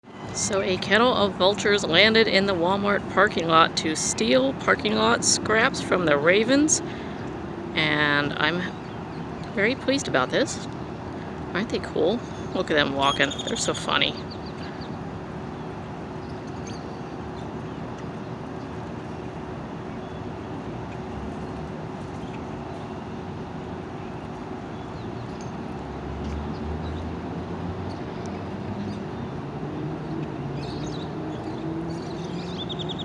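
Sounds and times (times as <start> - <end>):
vehicle engine hum: 0.3 - 33.0.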